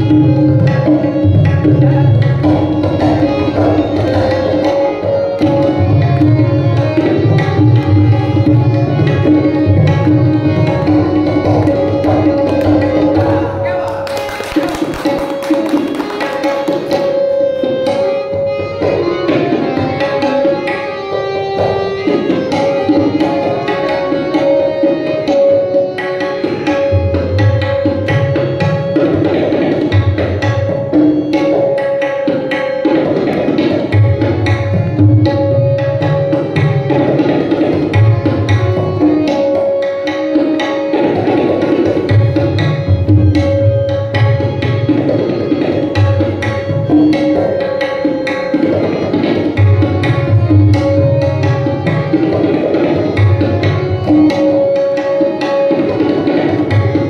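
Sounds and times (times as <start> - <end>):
harmonium melody: 0.0 - 57.0
rapid tabla strokes: 0.0 - 57.0.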